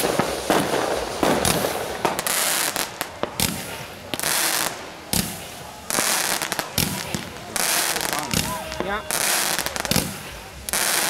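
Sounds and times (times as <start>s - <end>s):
fireworks fountains hissing: 0.0s - 11.0s
fireworks popping and crackling: 0.0s - 11.0s.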